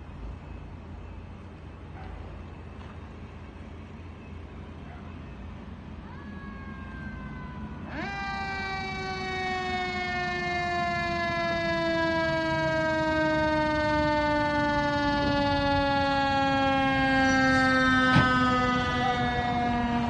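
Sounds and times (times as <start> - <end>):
fire engine mechanical siren: 0.0 - 20.0.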